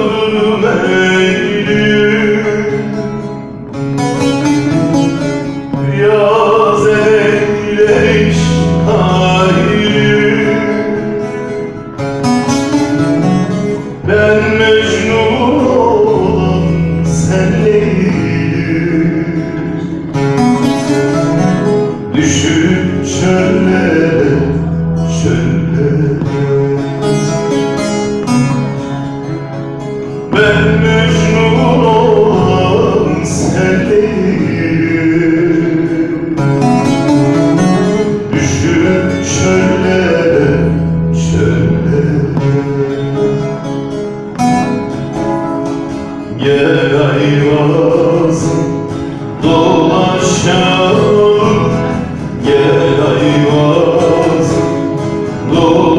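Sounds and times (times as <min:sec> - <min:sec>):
man singing: 0:00.0 - 0:28.8, 0:30.0 - 0:44.8, 0:45.9 - 0:55.9
plucked long-necked string instrument: 0:00.0 - 0:55.9.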